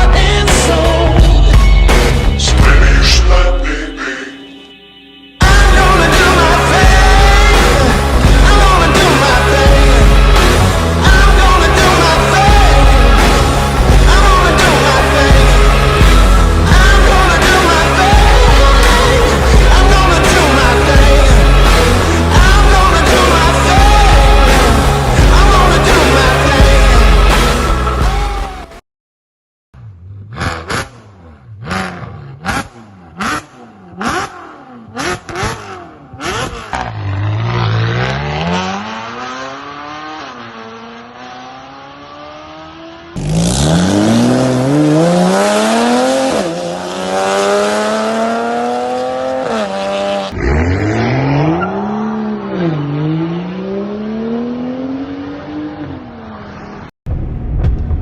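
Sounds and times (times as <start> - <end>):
car engines revving: 5.4 - 28.6, 29.8 - 56.9.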